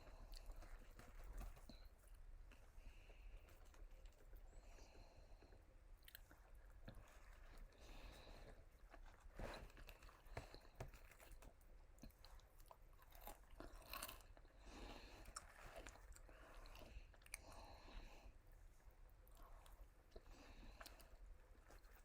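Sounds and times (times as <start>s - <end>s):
person chewing and crunching food: 0.0s - 22.0s.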